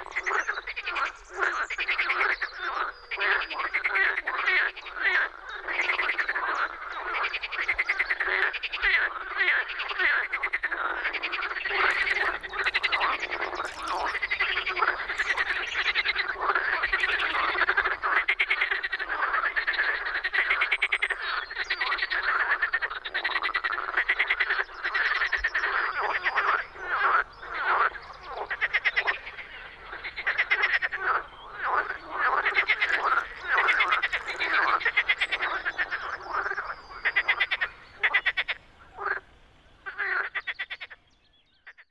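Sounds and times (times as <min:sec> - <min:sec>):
frogs croaking in chorus: 0:00.0 - 0:41.9.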